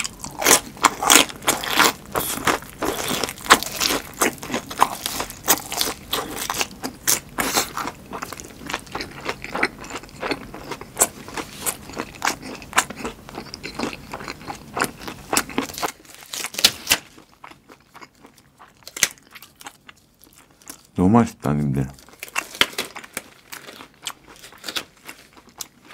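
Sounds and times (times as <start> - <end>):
crunchy chewing: 0.0 - 21.0, 21.9 - 25.9.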